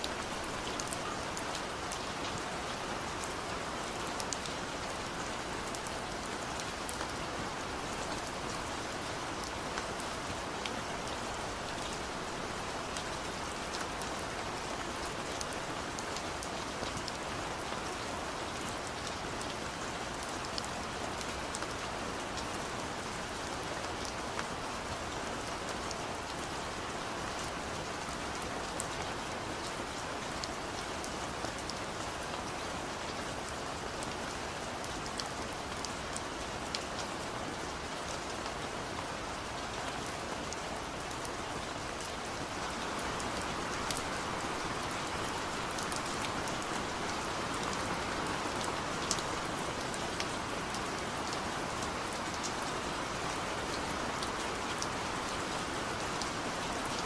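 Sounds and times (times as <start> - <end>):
steady rain with drop patter: 0.0 - 57.0.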